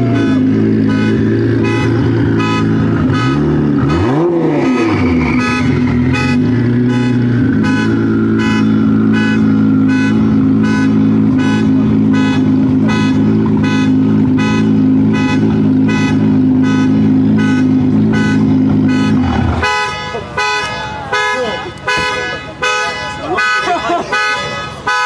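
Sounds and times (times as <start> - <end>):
car engine running steadily: 0.0 - 25.0.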